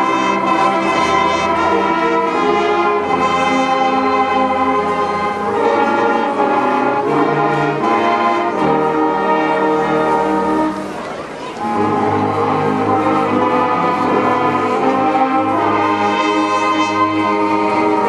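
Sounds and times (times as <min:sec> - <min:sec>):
marching band playing: 0:00.0 - 0:11.0, 0:11.6 - 0:18.0.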